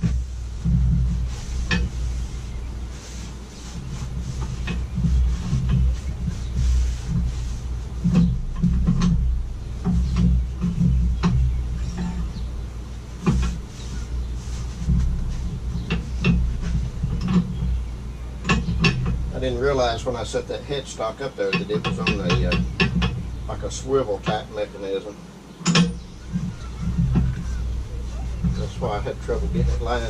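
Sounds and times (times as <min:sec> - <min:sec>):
metal parts knocking and clunking: 0:00.0 - 0:02.1, 0:03.8 - 0:20.4, 0:21.5 - 0:24.6, 0:25.6 - 0:30.0
background music with low beat: 0:00.0 - 0:20.6, 0:25.9 - 0:30.0.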